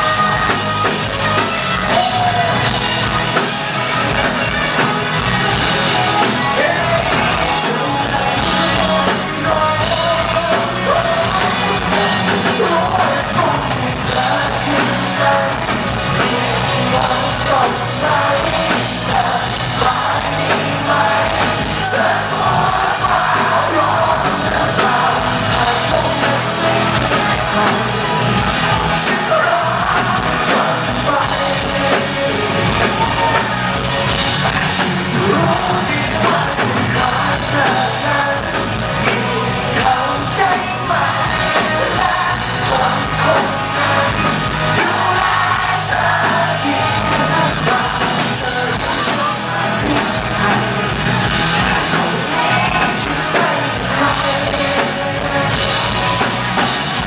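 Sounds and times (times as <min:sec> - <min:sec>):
crowd yelling: 0:00.0 - 0:57.0
person singing: 0:00.0 - 0:57.0
pop-rock band playing live: 0:00.0 - 0:57.0.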